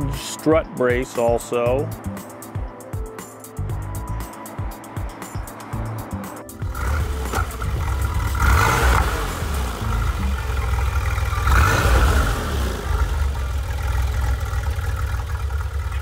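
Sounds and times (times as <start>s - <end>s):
car engine rumbling: 1.8s - 16.0s.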